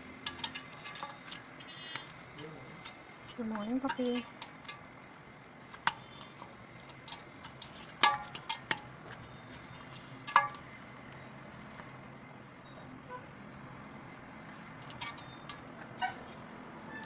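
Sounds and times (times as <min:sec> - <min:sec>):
objects clinking and knocking: 0:00.0 - 0:12.0, 0:14.7 - 0:17.0.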